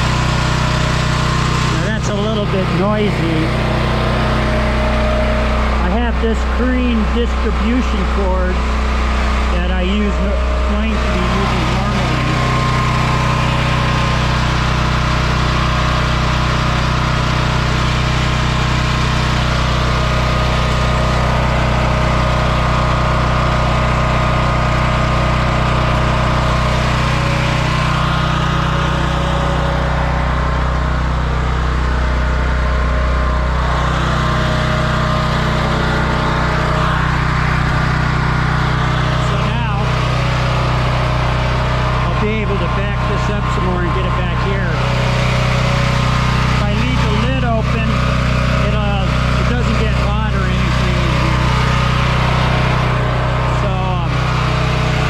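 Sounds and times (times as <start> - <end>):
generator running: 0.0 - 55.0.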